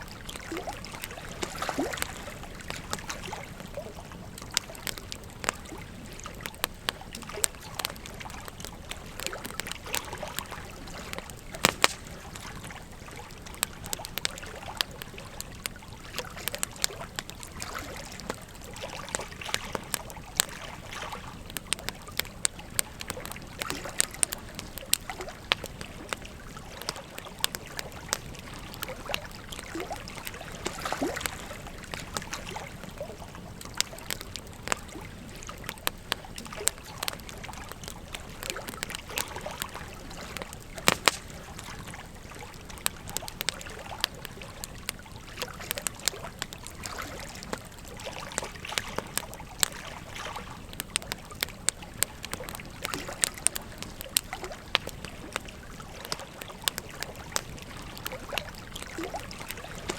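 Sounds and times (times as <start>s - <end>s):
flowing river water: 0.0s - 59.9s
wood fire crackling and popping: 0.0s - 59.9s.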